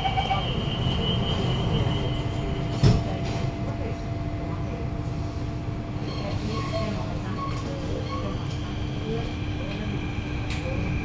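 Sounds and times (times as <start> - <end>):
train low hum: 0.0 - 11.0.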